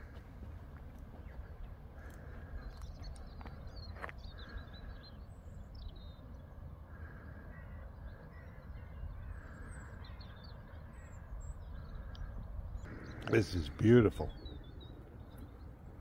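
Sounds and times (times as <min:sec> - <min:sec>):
high bird calls: 0:00.9 - 0:16.0.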